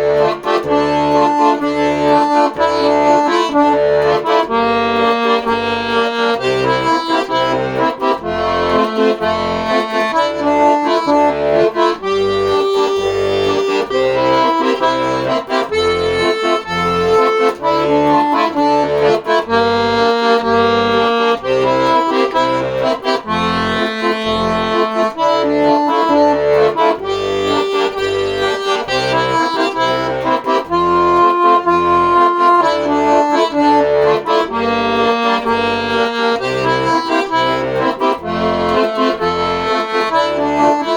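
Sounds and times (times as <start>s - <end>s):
accordion playing: 0.0s - 40.9s.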